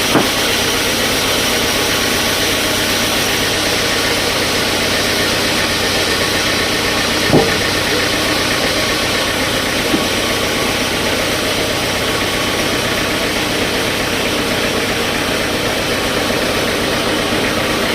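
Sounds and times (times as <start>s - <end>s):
sawmill machinery drone: 0.0s - 17.9s.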